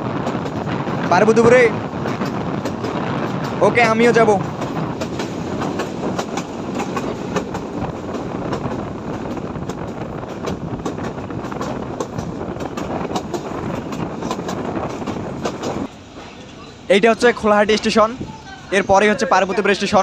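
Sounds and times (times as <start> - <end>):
train rumbling: 0.0 - 20.0
wheels clicking on rails: 0.0 - 20.0.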